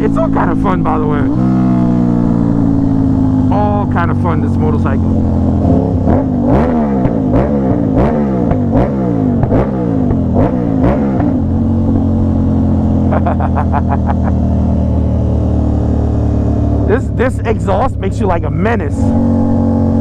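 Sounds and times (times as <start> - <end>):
exhaust crackles: 0.0 - 8.2, 9.3 - 20.0
exhaust cracking on upshifts: 0.0 - 20.0
motorcycle accelerating hard: 0.0 - 20.0.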